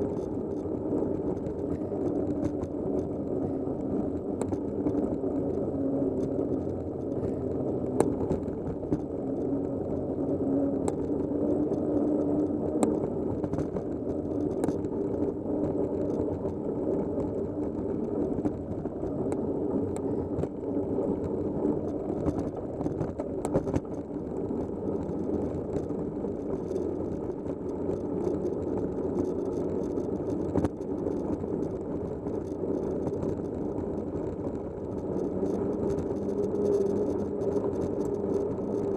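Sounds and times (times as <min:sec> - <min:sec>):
tyres on dirt road: 0:00.0 - 0:38.9
vehicle engine drone: 0:00.0 - 0:38.9.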